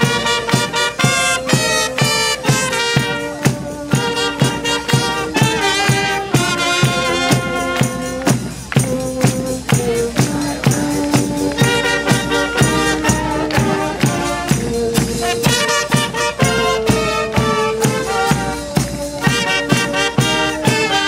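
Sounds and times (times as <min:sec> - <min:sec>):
bass drum and cymbals beat: 0:00.0 - 0:21.0
military brass band playing: 0:00.0 - 0:21.0.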